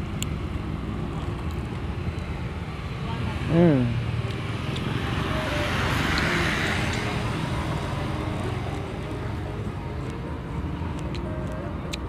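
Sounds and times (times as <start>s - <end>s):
steady low traffic rumble: 0.0s - 12.0s
vehicle passing: 0.0s - 12.0s.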